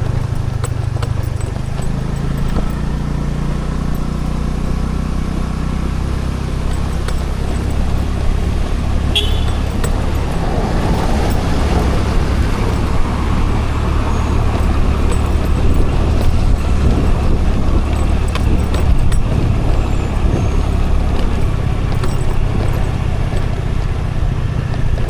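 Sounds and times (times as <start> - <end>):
road noise: 0.0 - 25.0
scooter engine humming: 0.0 - 25.0
wind: 0.0 - 25.0.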